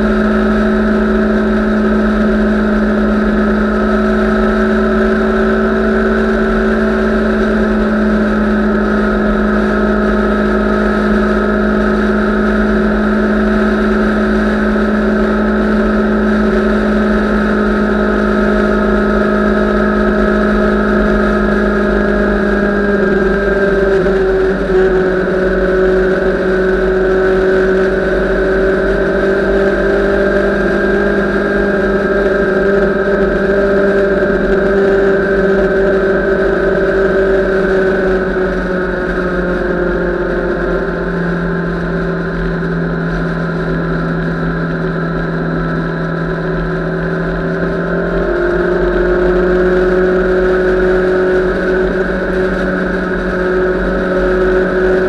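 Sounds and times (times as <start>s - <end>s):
motorcycle engine cruising: 0.0s - 55.0s
wind rumble on microphone: 0.0s - 55.0s.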